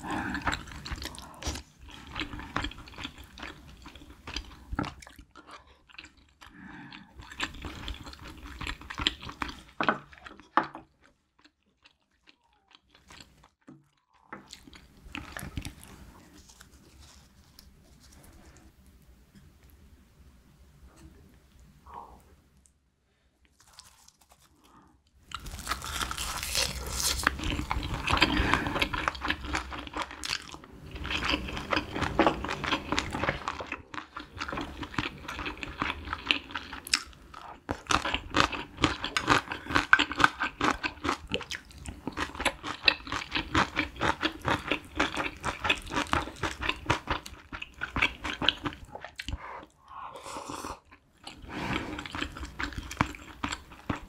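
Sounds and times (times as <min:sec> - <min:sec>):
close crunching and chewing: 0:00.0 - 0:18.4, 0:23.4 - 0:54.0.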